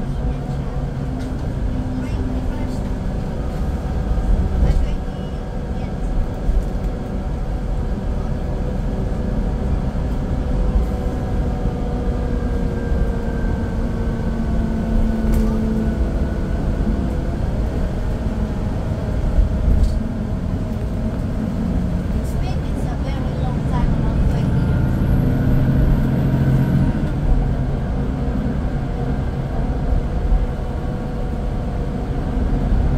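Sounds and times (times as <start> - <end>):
bus engine running: 0.0 - 32.9
low road rumble: 0.0 - 32.9.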